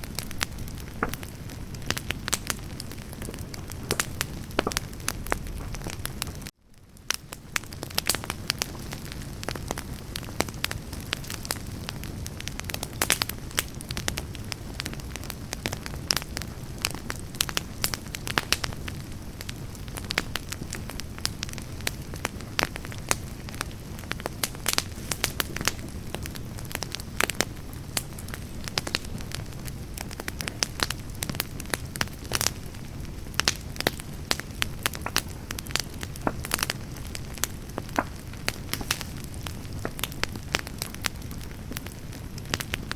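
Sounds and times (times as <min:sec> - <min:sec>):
low rush of flame: 0:00.0 - 0:16.8, 0:20.8 - 0:42.9
logs crackling and popping: 0:00.0 - 0:42.9.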